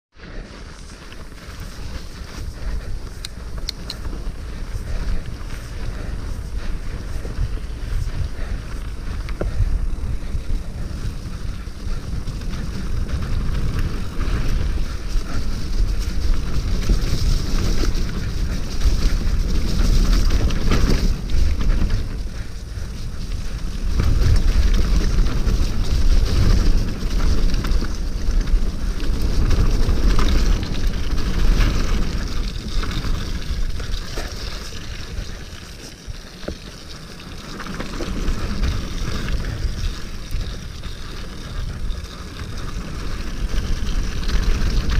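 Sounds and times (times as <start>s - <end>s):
tyres on icy dirt: 0.1s - 44.9s
wind buffeting microphone: 0.1s - 44.9s
bike clattering and rattling: 0.2s - 44.9s.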